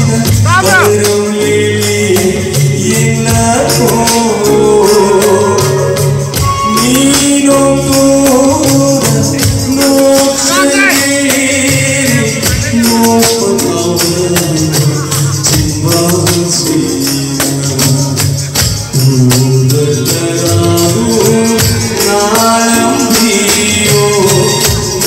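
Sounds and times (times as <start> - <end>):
band accompaniment: 0.0 - 25.0
jingling percussion beat: 0.0 - 25.0
man singing: 0.0 - 25.0.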